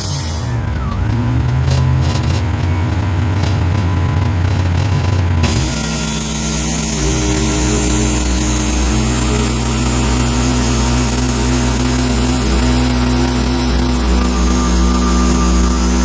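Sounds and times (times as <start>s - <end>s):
sawmill engine hum: 0.0s - 16.0s.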